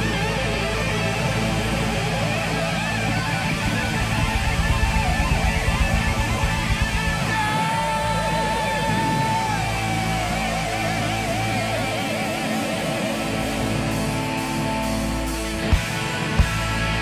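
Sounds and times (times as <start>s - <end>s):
long high held guitar note: 0.0s - 17.0s
rock band playing live: 0.0s - 17.0s.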